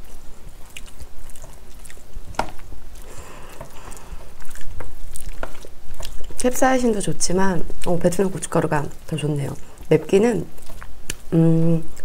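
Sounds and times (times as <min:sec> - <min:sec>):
chewing: 0:00.0 - 0:12.0
wet squishing of rice: 0:00.0 - 0:12.0.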